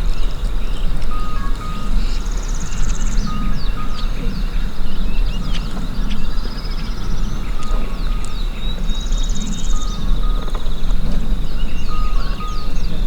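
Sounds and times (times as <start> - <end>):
continuous low rumble: 0.0 - 13.0
songbirds chirping and trilling: 0.0 - 13.0.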